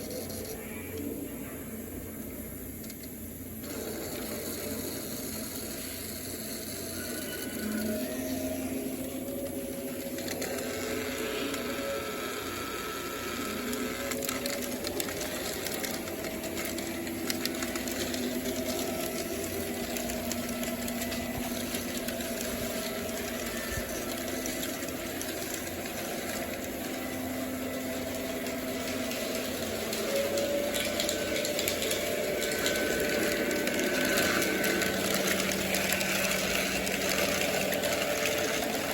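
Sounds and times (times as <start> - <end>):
wheels clicking on rails: 0.0 - 38.9
electric motor whine: 3.6 - 38.9.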